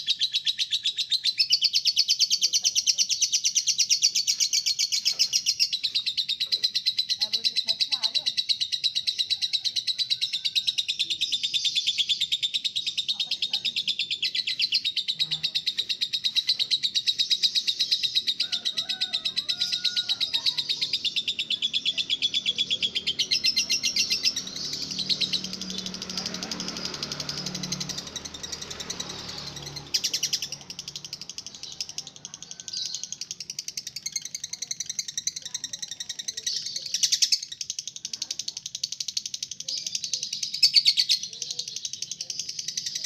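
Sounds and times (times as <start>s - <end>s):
lovebird chattering trill: 0.0s - 43.0s.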